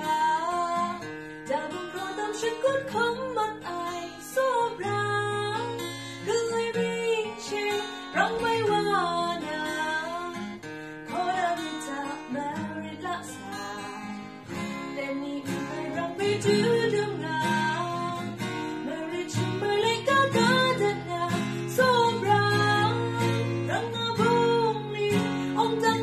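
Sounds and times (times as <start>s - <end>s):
acoustic guitar: 0.0s - 26.0s
woman singing: 0.0s - 26.0s.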